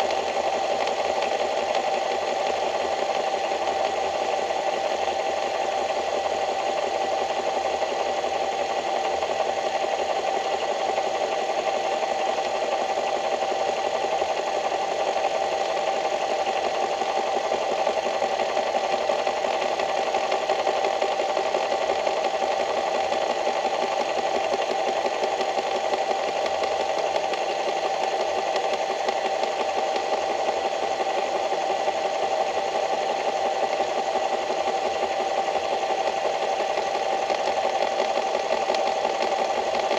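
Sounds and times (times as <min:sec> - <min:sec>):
small motor running: 0:00.0 - 0:39.9.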